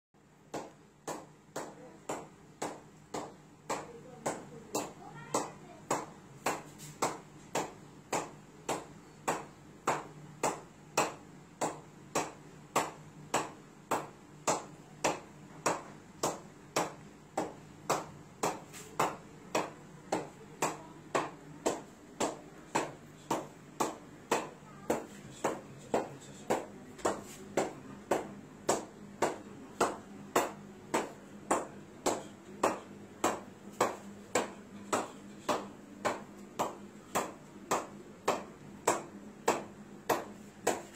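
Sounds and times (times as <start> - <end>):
ball bouncing on wooden bat: 0.5 - 40.9.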